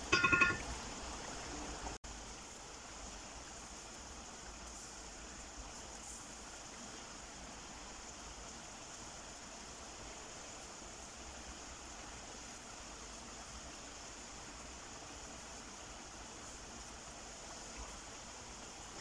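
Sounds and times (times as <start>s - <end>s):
pot simmering on a stove: 0.0s - 19.0s.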